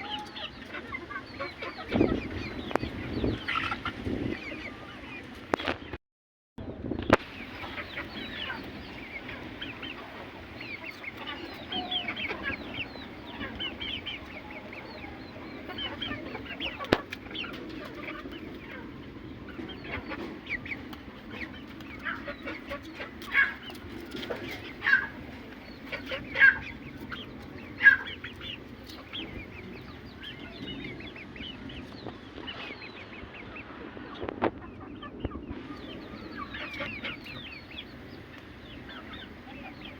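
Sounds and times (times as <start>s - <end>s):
chickens clucking and calling: 0.0s - 6.0s, 7.1s - 39.9s.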